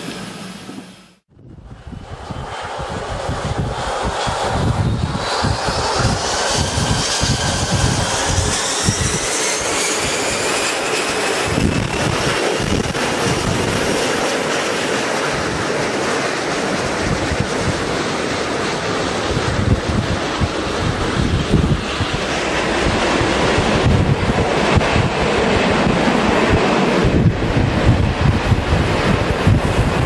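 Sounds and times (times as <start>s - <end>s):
loud rushing noise: 0.0s - 14.2s, 14.8s - 30.0s
gusty rumble: 0.0s - 30.0s
jet engine whine: 0.0s - 30.0s.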